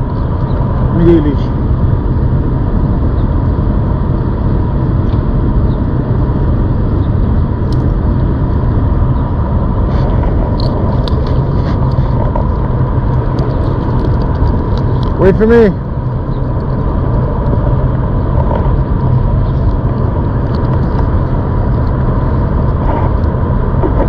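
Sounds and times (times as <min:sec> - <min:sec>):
faint steady whine: 0:00.0 - 0:24.0
wind rumble on microphone: 0:00.0 - 0:24.0.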